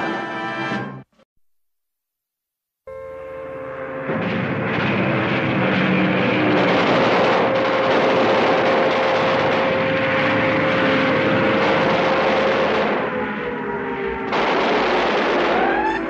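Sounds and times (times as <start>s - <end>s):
loud engine drone with whine: 2.9s - 16.0s.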